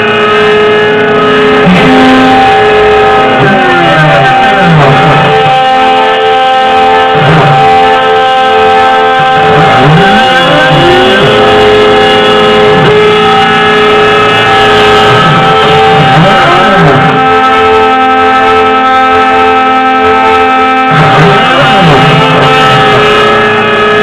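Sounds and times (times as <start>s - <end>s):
milling machine cutting metal: 0.0s - 17.8s, 20.0s - 24.0s
stepper motors sweeping pitch: 0.0s - 24.0s.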